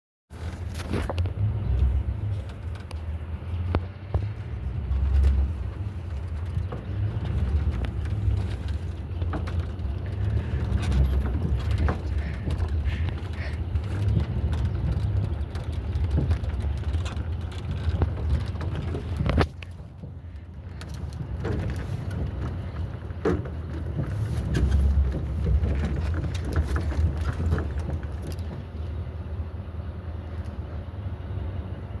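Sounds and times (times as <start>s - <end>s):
truck engine and road rumble: 0.3s - 32.0s
small rattles and knocks: 0.4s - 29.9s.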